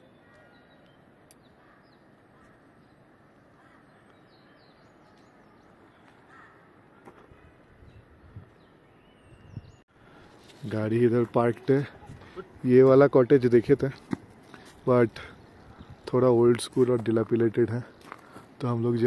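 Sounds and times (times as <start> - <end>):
distant birds calling: 0.0 - 10.5, 11.4 - 18.6.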